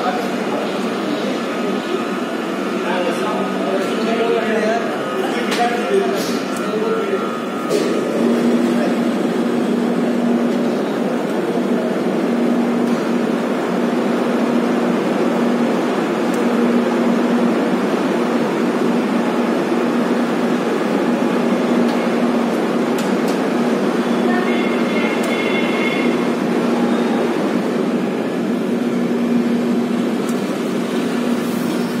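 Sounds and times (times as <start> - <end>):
moving train rushing: 0.0 - 32.0.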